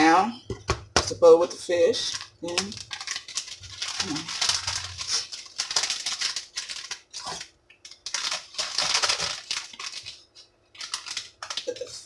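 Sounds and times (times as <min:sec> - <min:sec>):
packaging crinkling: 0:02.0 - 0:12.0.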